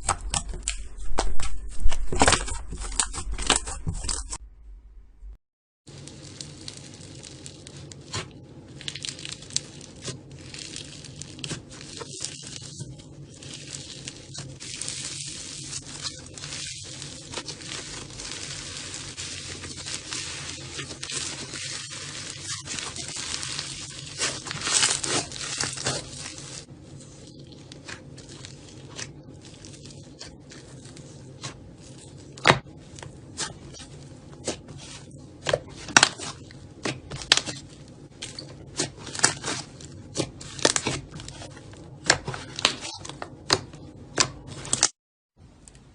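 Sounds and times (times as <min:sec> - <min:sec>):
slime crackling and popping: 0:05.9 - 0:44.9.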